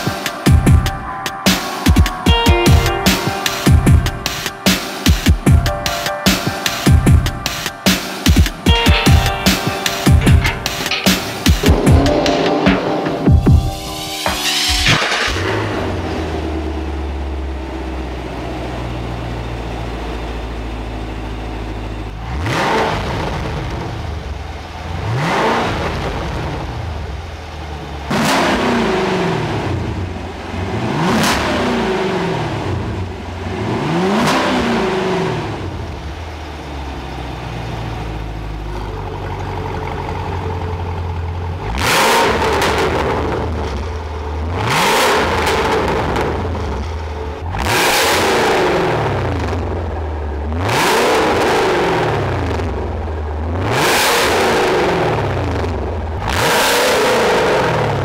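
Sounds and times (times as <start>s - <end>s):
car engine idling: 0.0s - 58.0s
engine revving: 0.0s - 58.0s.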